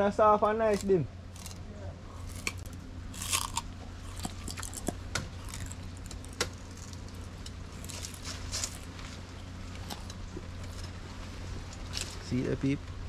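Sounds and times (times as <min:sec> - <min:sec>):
dry leaves crackling and rustling: 0:00.6 - 0:12.5.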